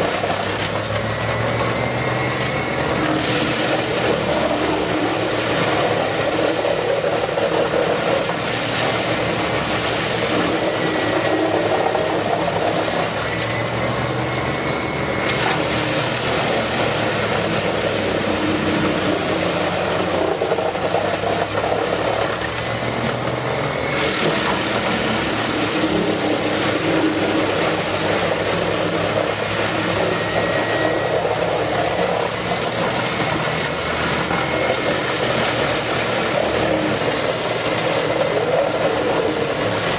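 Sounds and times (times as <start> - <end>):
wood chipper engine droning: 0.0 - 39.9.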